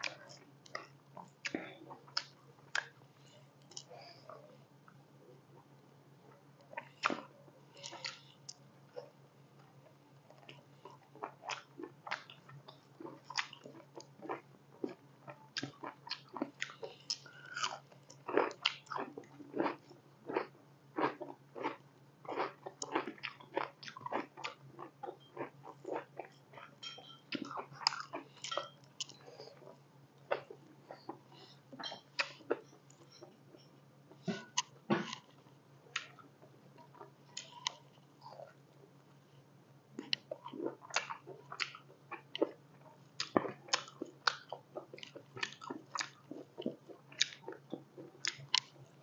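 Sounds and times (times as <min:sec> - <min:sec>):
chewing and mouth smacking: 0:00.0 - 0:03.0, 0:06.6 - 0:09.1, 0:10.3 - 0:35.3, 0:35.9 - 0:38.6, 0:40.0 - 0:48.8
faint low hum: 0:00.0 - 0:49.0.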